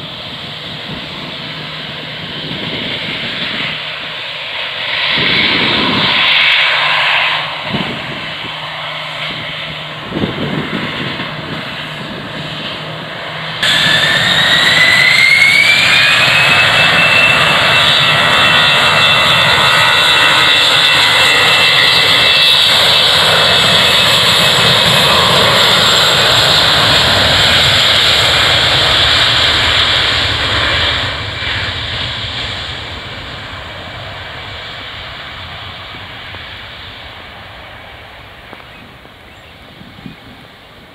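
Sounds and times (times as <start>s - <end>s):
jet engines spooling up: 0.0s - 40.9s.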